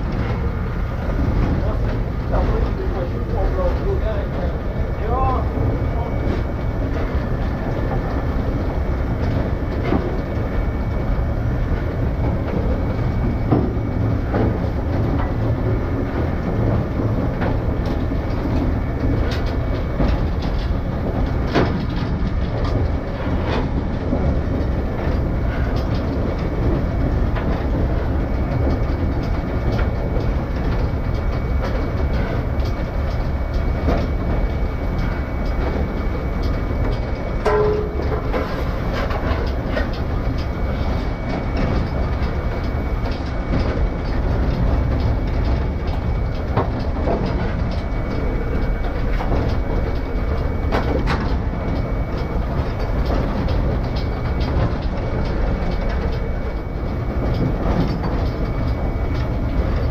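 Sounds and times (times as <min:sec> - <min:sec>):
train running: 0:00.0 - 0:59.9
wheels clicking over rail joints: 0:01.2 - 0:59.9.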